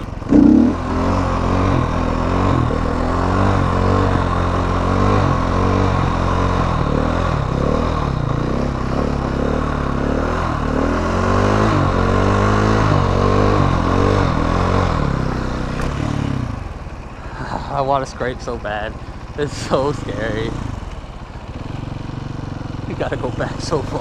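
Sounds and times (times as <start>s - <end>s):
motorcycle engine revving: 0.0s - 17.2s, 18.0s - 24.0s.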